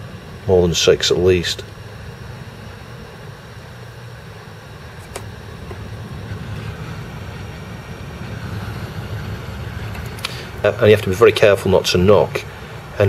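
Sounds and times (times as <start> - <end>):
hot air station blowing: 0.0 - 13.0.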